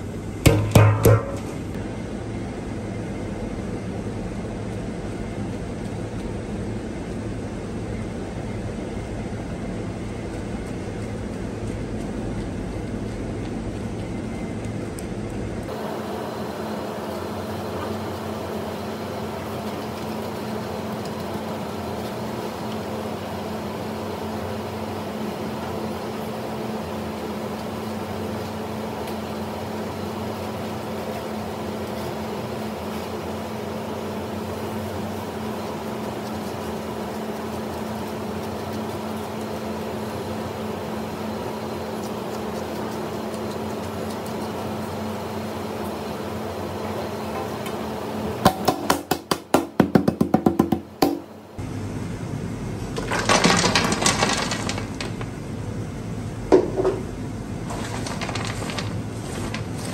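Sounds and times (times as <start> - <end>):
steady higher hum: 0.0 - 48.7, 50.8 - 53.0, 54.9 - 59.9
kitchen equipment drone: 0.0 - 49.1, 49.8 - 59.9.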